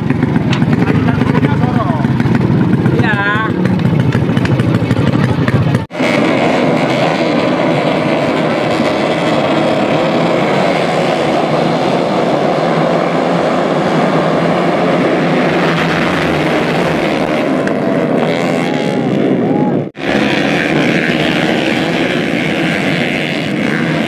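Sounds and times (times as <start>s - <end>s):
dirt bike engines at high revs: 0.0s - 24.0s.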